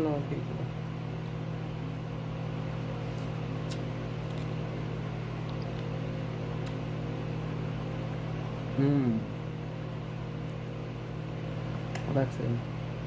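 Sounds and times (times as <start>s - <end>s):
low electrical motor hum: 0.0s - 13.0s.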